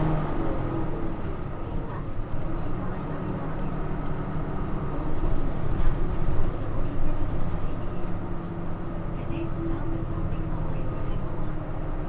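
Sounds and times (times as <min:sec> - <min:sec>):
bus diesel engine running: 0:00.0 - 0:12.0
road and drivetrain noise: 0:00.0 - 0:12.0.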